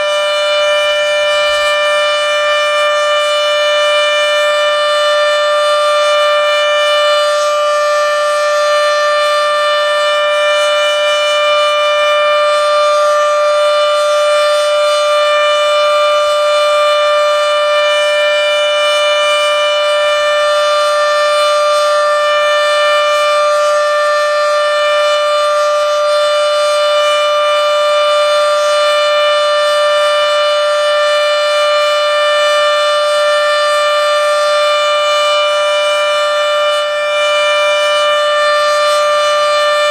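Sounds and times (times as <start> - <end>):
warning siren steady chord: 0.0 - 39.9.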